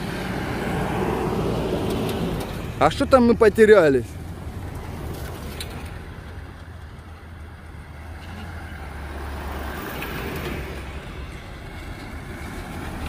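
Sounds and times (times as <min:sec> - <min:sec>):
tyres on dirt: 0:00.0 - 0:13.0
vehicle engine rumble: 0:00.0 - 0:13.0.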